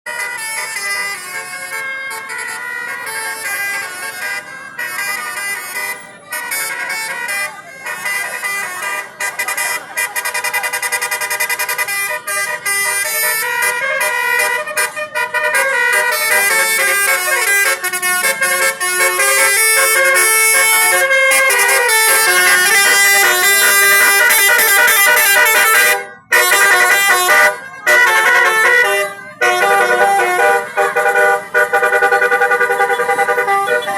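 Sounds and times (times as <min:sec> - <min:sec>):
musical bus horn playing a tune: 0:00.0 - 0:33.9.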